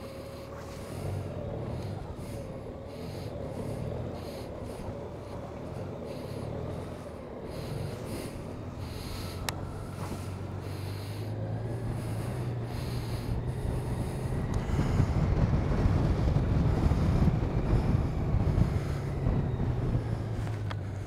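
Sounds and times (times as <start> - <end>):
motorcycle engine humming: 0.0 - 21.0.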